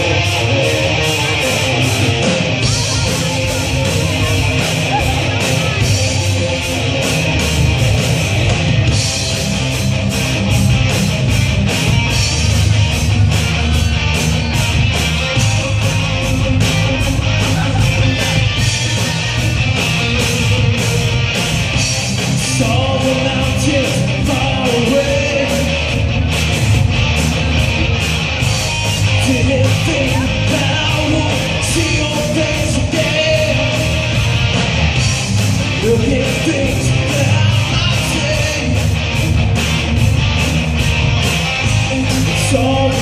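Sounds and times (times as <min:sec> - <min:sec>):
bass guitar: 0:00.0 - 0:43.0
distorted electric guitars: 0:00.0 - 0:43.0
drums and cymbals beat: 0:00.0 - 0:43.0.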